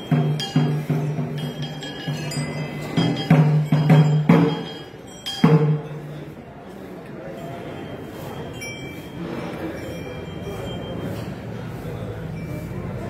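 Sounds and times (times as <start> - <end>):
low metal bell ringing: 0.0 - 6.6, 7.2 - 13.0.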